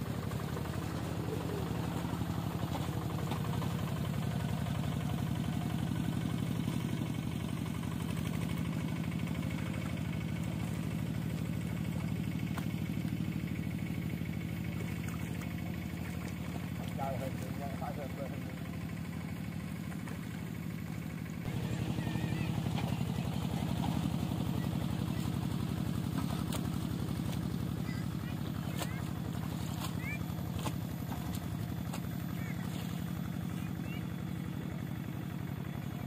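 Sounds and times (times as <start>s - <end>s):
small engine idling: 0.0s - 36.0s.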